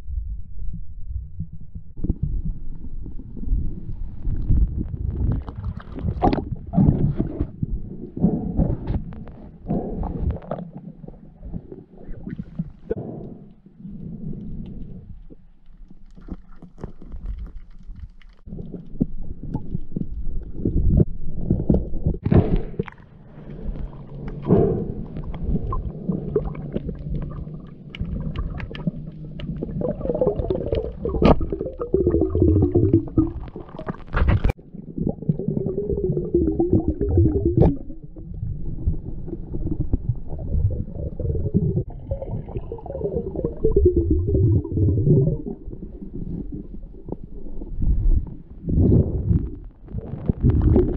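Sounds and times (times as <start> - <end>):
underwater rumble and gurgling: 0.0 - 50.9.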